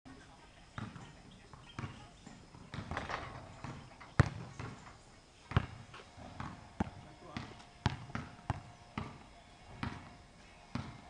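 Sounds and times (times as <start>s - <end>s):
basketball bouncing on hard court: 0.8s - 4.8s, 5.5s - 11.0s.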